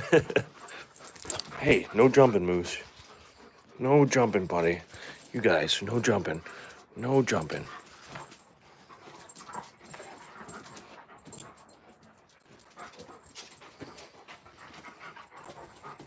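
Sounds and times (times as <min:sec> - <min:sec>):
puppies panting: 0:00.0 - 0:16.0.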